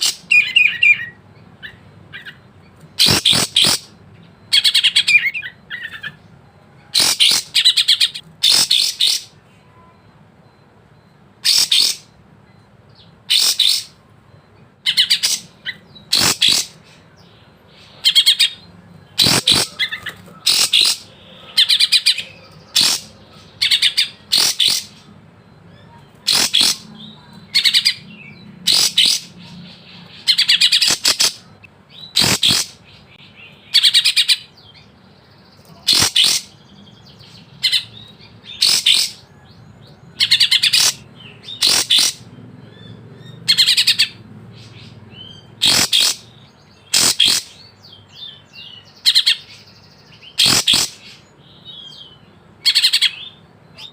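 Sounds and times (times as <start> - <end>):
songbird singing sharp phrases: 0.0 - 53.9.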